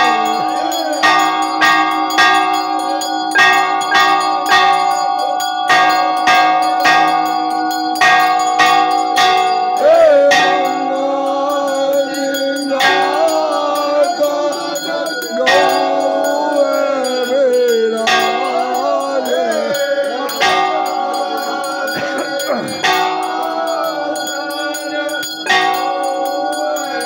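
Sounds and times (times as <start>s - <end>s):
bells ringing: 0.0s - 27.0s
voices singing: 0.0s - 27.0s.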